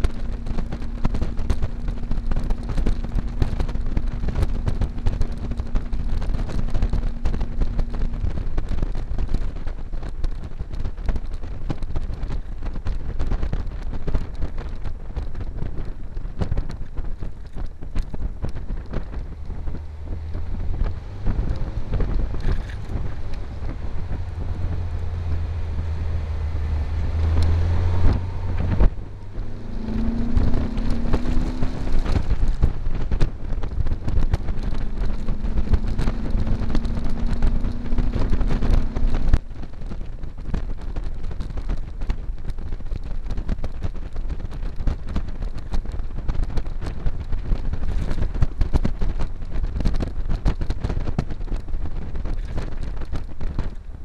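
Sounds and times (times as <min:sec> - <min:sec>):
buggy engine running: 0:00.0 - 0:54.0
road noise: 0:00.0 - 0:54.0
wind buffeting microphone: 0:00.0 - 0:54.0.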